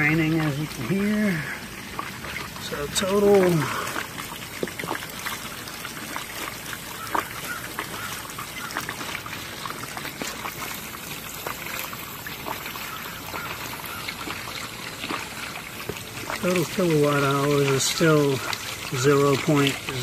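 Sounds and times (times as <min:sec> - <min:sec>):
water dripping: 0:00.0 - 0:20.0
water trickling out of tub: 0:00.0 - 0:20.0.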